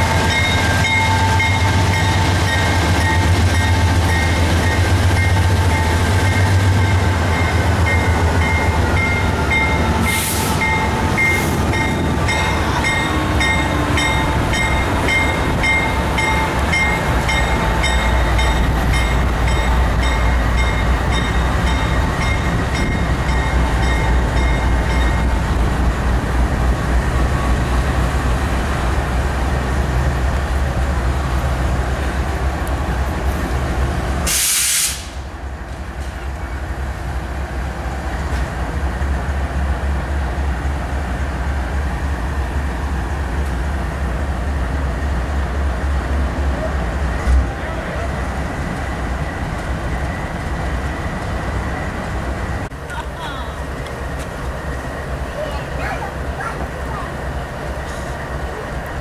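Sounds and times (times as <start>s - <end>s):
diesel freight train passing: 0.0s - 59.0s.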